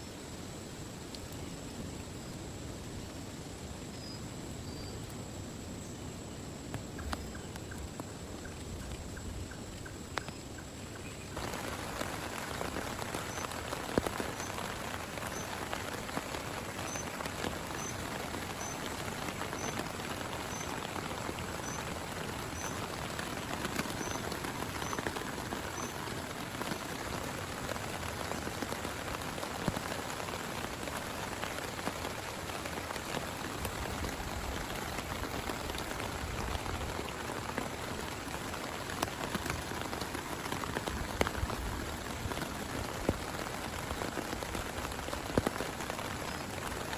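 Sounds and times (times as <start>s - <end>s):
heavy rain patter: 0.0s - 46.9s.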